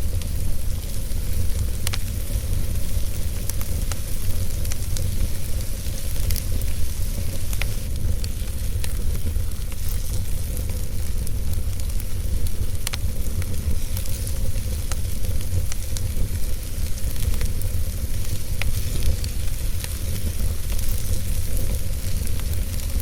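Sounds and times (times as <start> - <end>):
fireplace fire crackling: 0.0 - 23.0.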